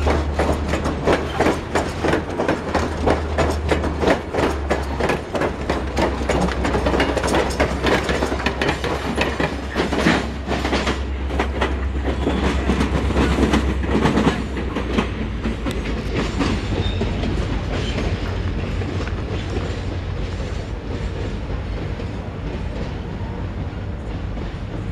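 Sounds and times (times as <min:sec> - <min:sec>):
train wheels clicking on rail joints: 0:00.0 - 0:24.9.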